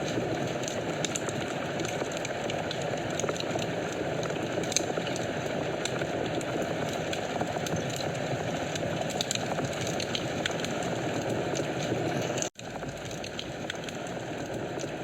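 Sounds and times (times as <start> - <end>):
fire flames rushing: 0.0 - 15.0
wood crackling and popping: 0.0 - 15.0.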